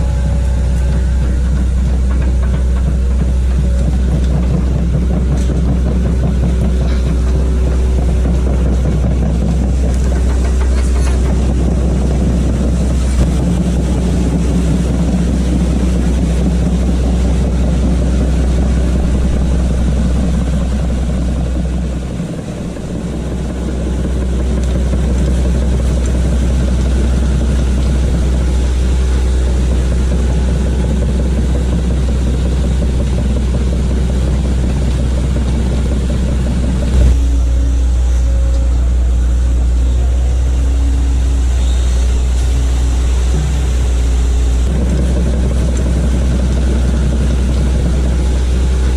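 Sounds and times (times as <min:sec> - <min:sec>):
excavator diesel engine rumble: 0:00.0 - 0:48.9.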